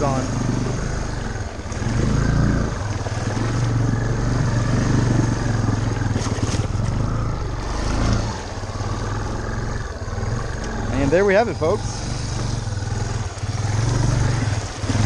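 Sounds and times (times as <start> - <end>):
engine running under load: 0.0 - 15.0
tyres churning through water: 0.0 - 15.0.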